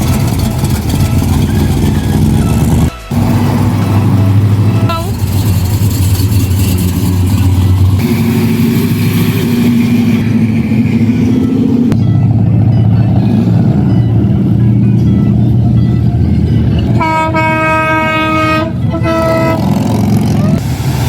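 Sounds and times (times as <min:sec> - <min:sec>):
car engine running: 0:00.0 - 0:20.6.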